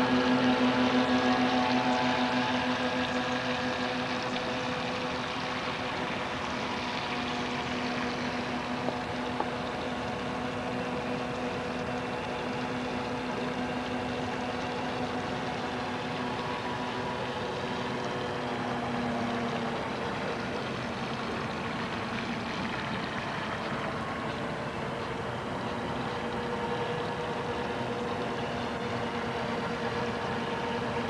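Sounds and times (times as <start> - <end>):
model boat motor whine: 0.0 - 31.0
rushing water haze: 0.0 - 31.0.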